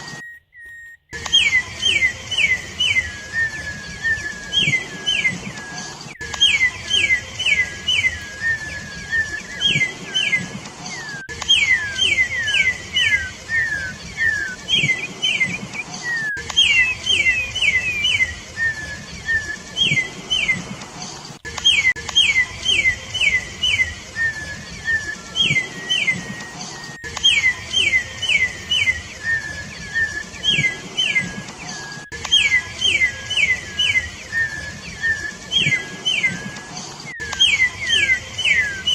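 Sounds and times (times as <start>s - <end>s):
thin steady whistle: 0.0s - 20.5s, 23.2s - 38.9s
bird whistled notes: 0.0s - 20.7s, 21.4s - 38.9s.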